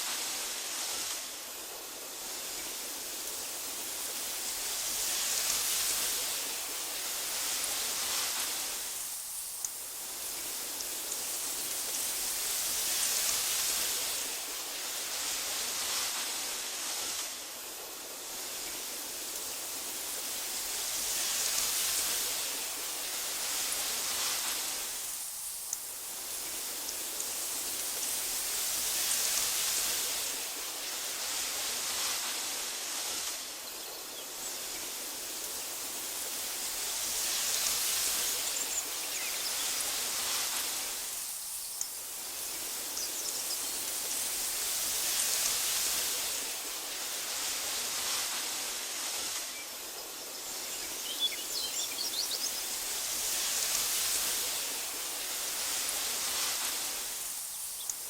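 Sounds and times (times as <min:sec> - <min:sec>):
wind blowing through grass: 0:00.0 - 0:58.0.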